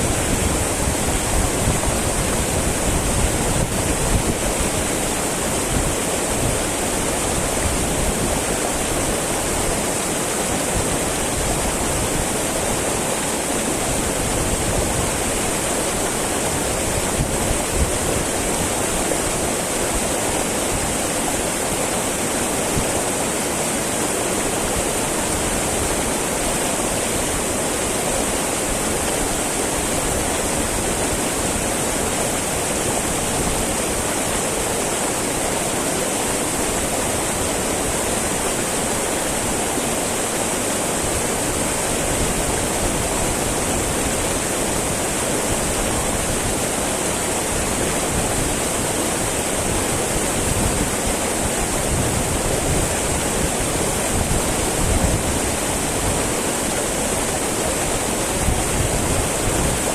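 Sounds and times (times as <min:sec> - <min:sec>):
river babbling over rocks: 0:00.0 - 0:59.9.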